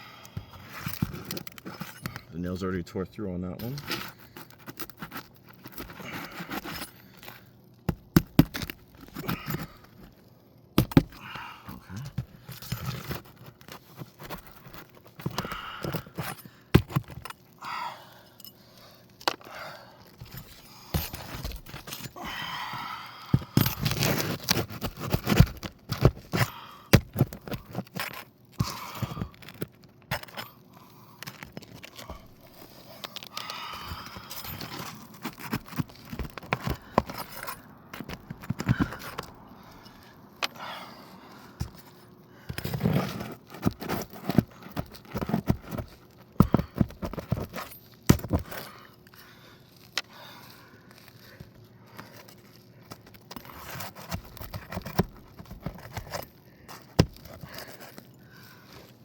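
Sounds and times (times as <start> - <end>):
pry tool scraping shingles: 0.2 - 2.3, 3.6 - 49.2, 51.2 - 59.0.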